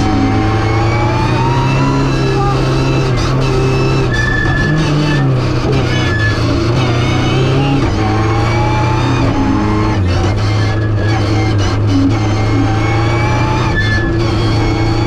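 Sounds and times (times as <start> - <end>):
car engine pulling hard: 0.0 - 15.0.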